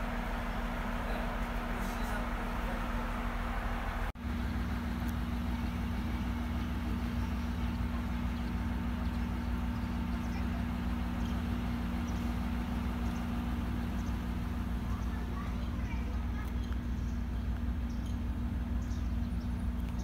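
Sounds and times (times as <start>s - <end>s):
diesel railcar engine idling: 0.0s - 20.0s.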